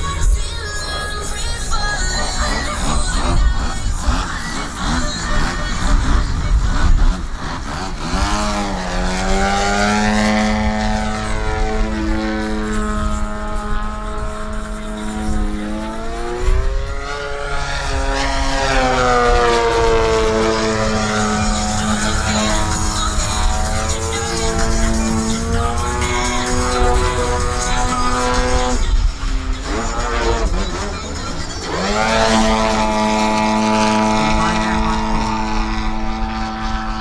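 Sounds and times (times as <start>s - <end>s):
model airplane engine buzzing: 0.0s - 37.0s.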